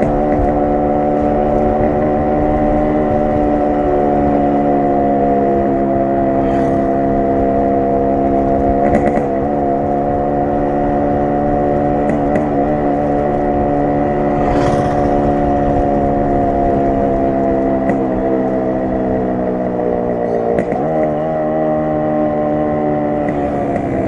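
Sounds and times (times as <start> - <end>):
two-stroke motorcycle exhaust: 0.0 - 24.0.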